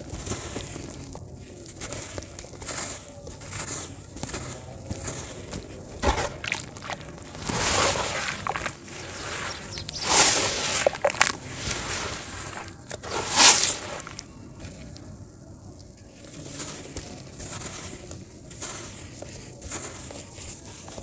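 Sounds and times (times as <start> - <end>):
wet sand squelching and sloshing: 0.0 - 15.0, 16.2 - 21.0.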